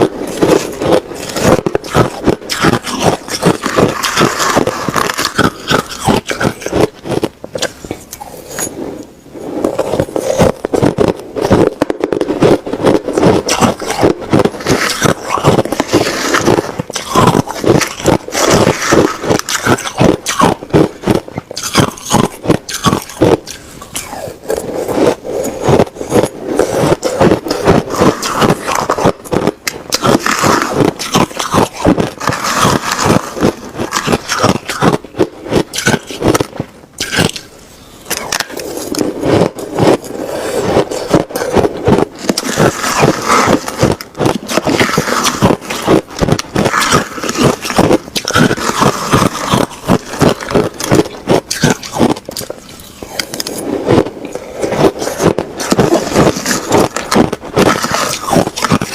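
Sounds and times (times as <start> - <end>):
person chewing ice: 0.0 - 58.9.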